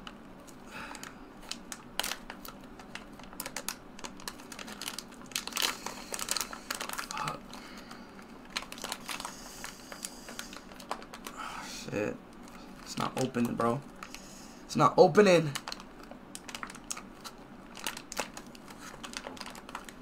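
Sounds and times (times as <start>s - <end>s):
foil packet crinkling: 0.4s - 11.4s, 12.3s - 14.5s, 15.2s - 20.0s.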